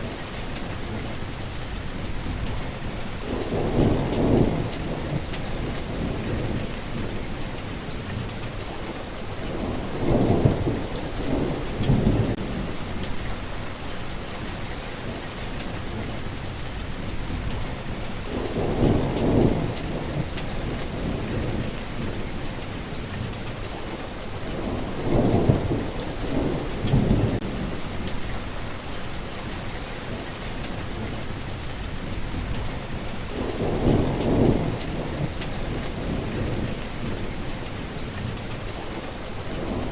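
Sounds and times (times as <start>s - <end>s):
steady rain: 0.0s - 39.9s
thunder rumbling: 0.1s - 39.9s.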